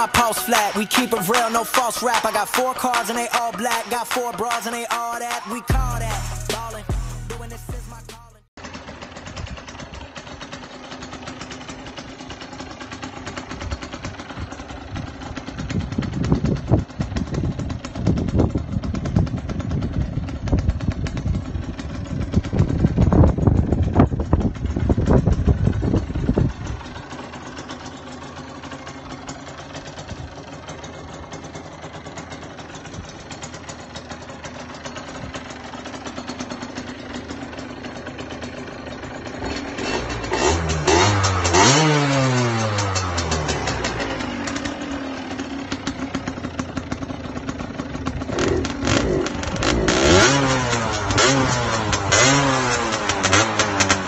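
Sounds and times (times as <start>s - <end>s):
two-stroke engine running: 0.0s - 54.0s.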